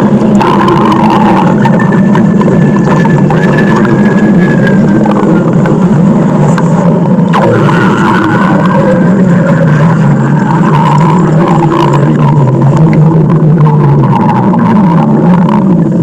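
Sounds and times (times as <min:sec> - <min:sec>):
stomach growling: 0:00.0 - 0:16.0.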